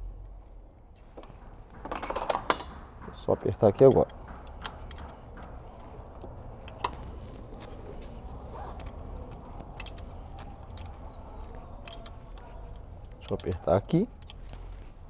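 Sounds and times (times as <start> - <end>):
wrench clicking on metal: 1.8 - 14.9.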